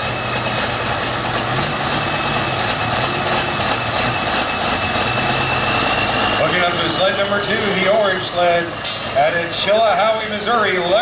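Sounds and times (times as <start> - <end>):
heavy engine idling: 0.0 - 11.0.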